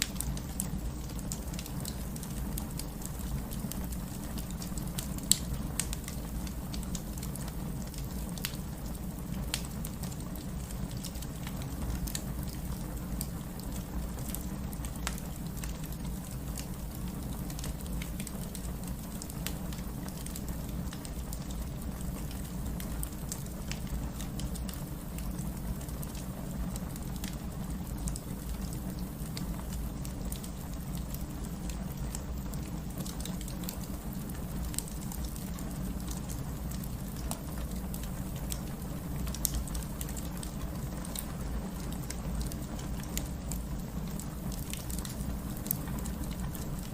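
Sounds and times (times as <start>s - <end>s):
fire popping: 0.0s - 46.9s
rain pattering: 0.0s - 46.9s
wood fire crackling: 0.0s - 46.9s.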